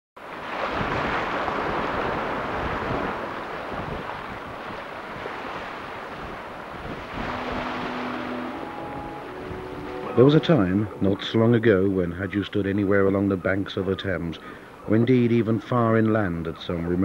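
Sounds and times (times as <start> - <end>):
choppy water splashing: 0.2 - 17.0
wind buffeting the microphone: 0.3 - 17.0.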